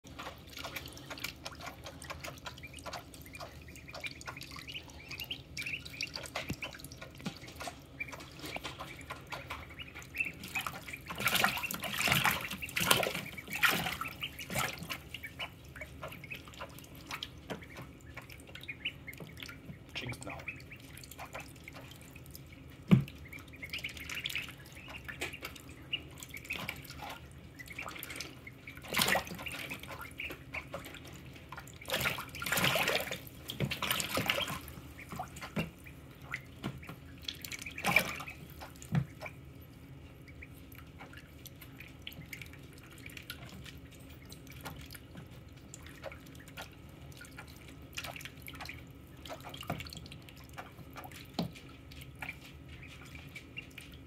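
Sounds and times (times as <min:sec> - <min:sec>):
ducklings splashing in water: 0:00.0 - 0:54.0.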